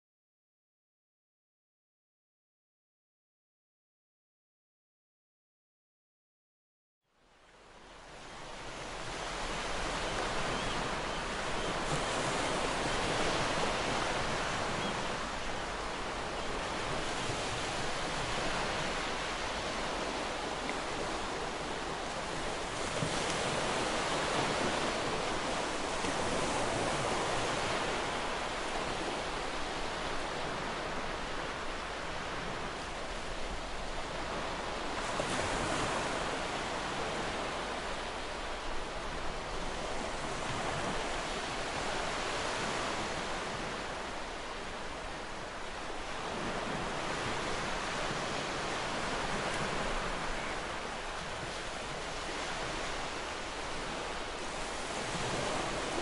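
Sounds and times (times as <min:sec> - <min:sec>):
ocean waves breaking: 0:08.4 - 0:56.0.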